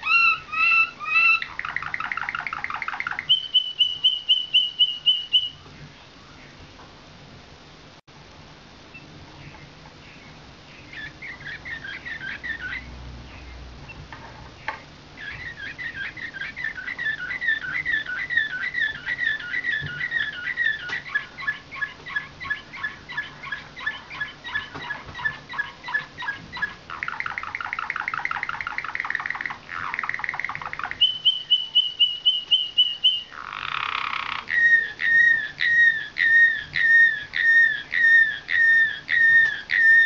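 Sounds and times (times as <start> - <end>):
canary singing: 0.0 - 6.6, 8.9 - 40.0.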